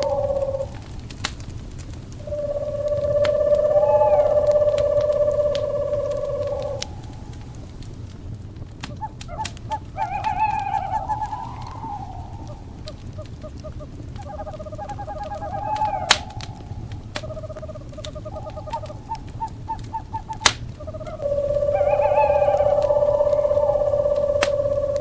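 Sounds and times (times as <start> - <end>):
owls calling in trills: 0.0 - 1.2, 2.1 - 7.7, 8.8 - 25.0
low rumble: 0.0 - 8.6, 9.7 - 19.4, 20.8 - 25.0
wood fire crackling with pops: 0.0 - 25.0.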